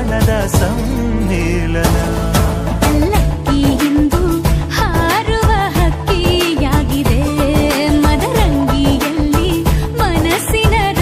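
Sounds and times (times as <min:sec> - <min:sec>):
song with steady beat: 0:00.0 - 0:11.0.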